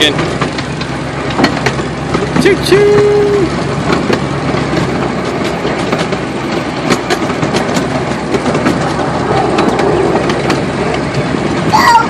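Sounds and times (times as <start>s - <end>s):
sharp clicks and rattles: 0.0s - 11.8s
ride train engine rumble: 0.0s - 12.0s.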